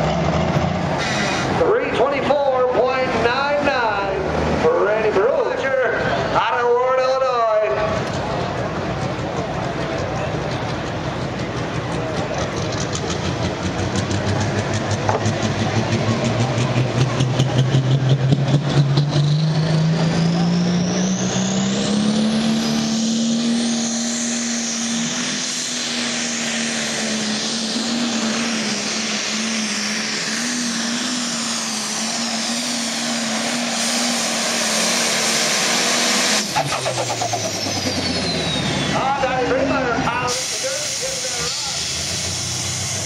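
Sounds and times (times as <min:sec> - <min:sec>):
diesel engine at full power: 0:00.0 - 0:43.0.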